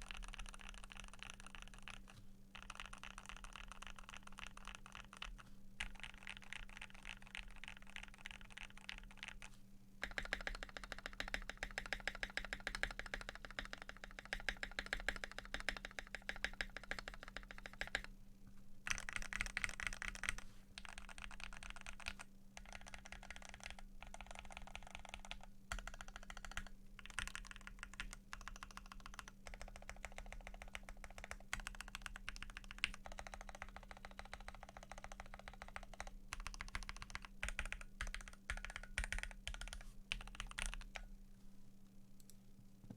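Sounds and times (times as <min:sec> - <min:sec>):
fast typing on mechanical keyboard: 0:00.0 - 0:18.1, 0:18.9 - 0:41.1
faint steady hum: 0:00.0 - 0:42.9.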